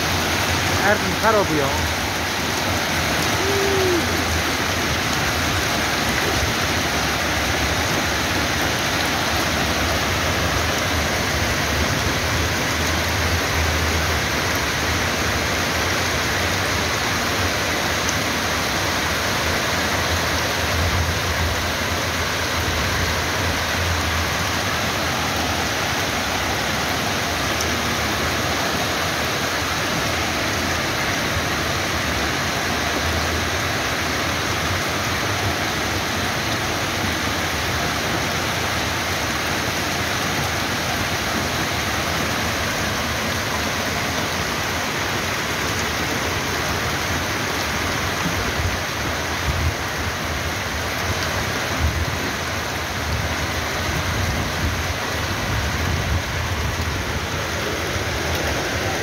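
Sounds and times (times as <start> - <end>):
heavy rain and hail: 0.0 - 59.0.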